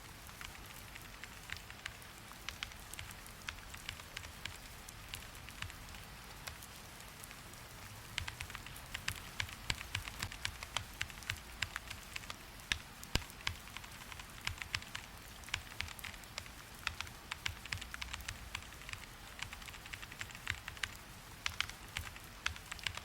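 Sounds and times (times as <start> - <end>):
rain hissing: 0.0 - 23.0
typing on a keyboard: 0.4 - 6.8, 8.1 - 23.0.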